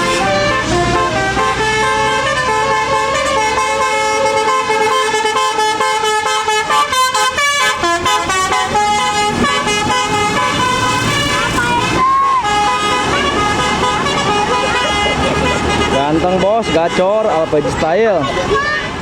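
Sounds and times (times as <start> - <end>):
bus engine rumble: 0.0 - 19.0
multi-trumpet bus horn tune: 0.0 - 19.0.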